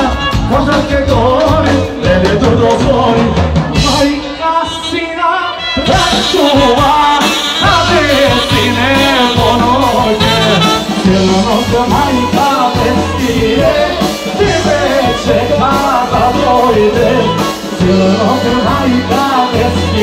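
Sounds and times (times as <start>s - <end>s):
live band playing folk dance music: 0.0s - 20.0s.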